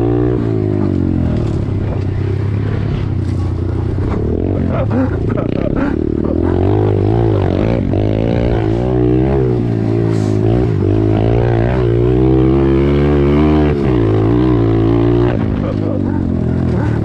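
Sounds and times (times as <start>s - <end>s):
motorbike engines idling: 0.0s - 12.3s, 13.9s - 17.0s
motorbike engines revving: 0.0s - 17.0s.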